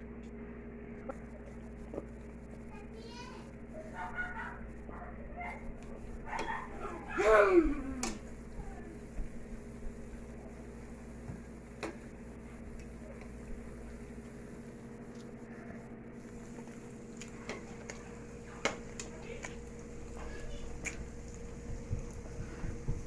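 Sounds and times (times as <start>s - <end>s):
kitchen appliance humming: 0.0s - 23.0s.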